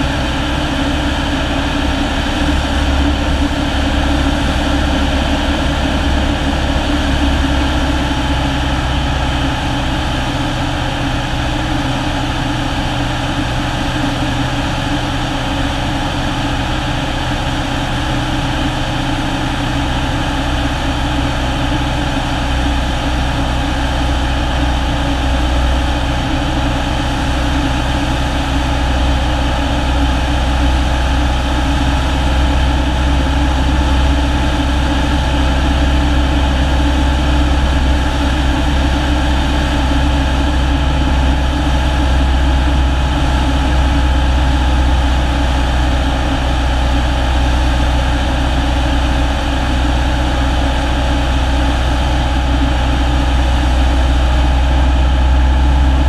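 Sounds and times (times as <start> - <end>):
propeller engine drone: 0.0 - 56.0.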